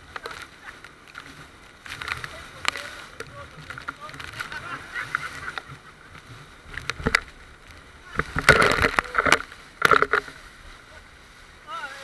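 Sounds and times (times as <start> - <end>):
water spray slapping inflatable boat: 0.0 - 12.0.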